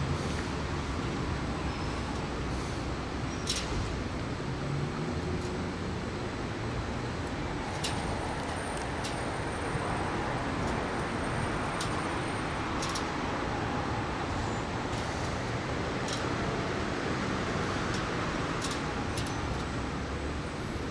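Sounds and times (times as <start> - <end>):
distant road traffic hum: 0.0 - 20.9.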